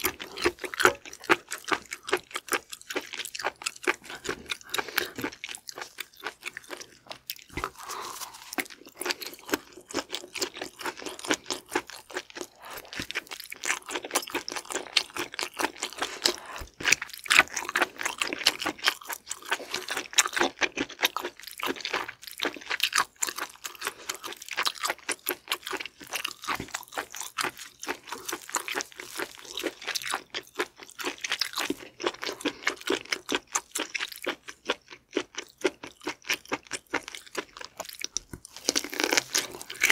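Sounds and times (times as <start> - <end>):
crunchy wet chewing: 0.0 - 39.9.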